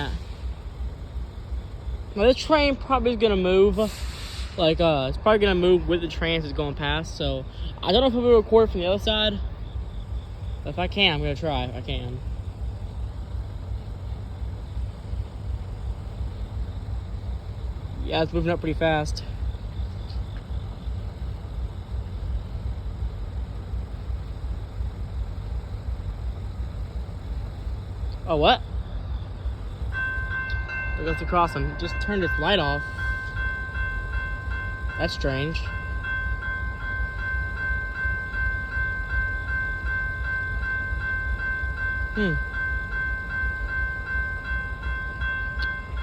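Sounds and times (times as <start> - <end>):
freight train rumbling: 0.0 - 46.0.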